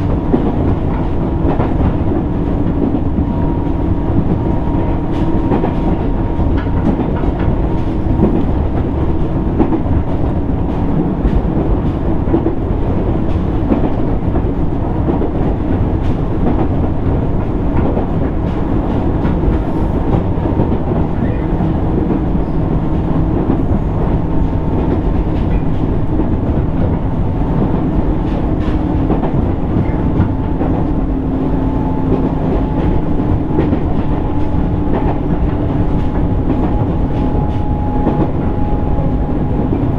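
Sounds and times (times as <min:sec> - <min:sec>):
light clacking over rails: 0:00.0 - 0:39.9
wheel on rail rumble: 0:00.0 - 0:39.9.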